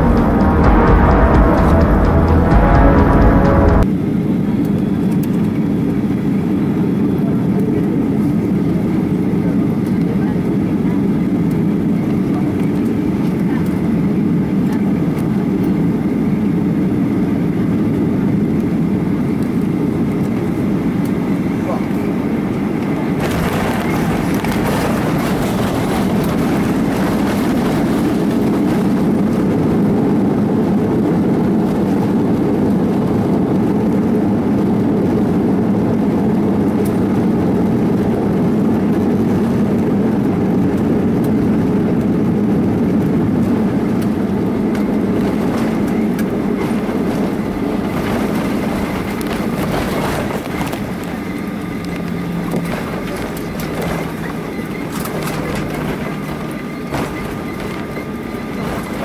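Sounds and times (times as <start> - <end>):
runway rumble: 0.0 - 3.9, 6.7 - 59.0
jet engine roar: 0.0 - 59.0.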